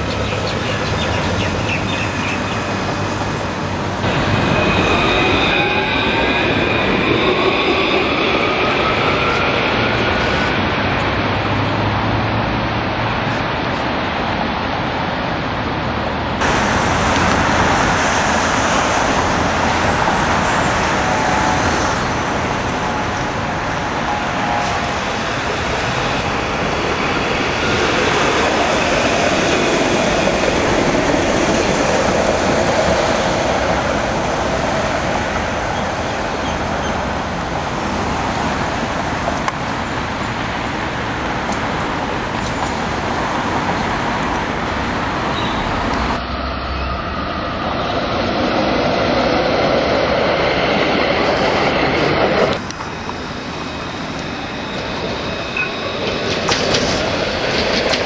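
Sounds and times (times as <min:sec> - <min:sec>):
road traffic passing: 0:00.0 - 0:58.0
trams rumbling: 0:00.0 - 0:58.0.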